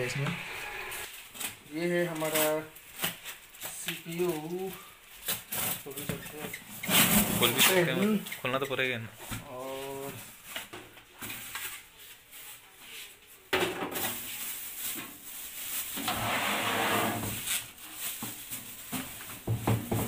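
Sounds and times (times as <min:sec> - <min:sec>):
packaging rustling and scraping: 0:00.8 - 0:08.4, 0:09.4 - 0:20.0.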